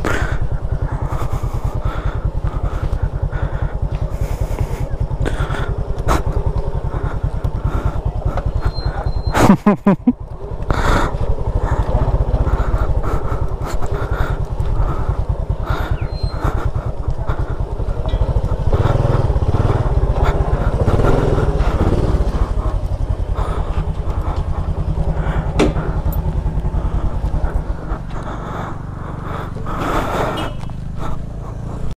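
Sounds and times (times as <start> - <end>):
wind rumble: 0.0 - 31.9
motor scooter riding on dirt: 0.0 - 32.0.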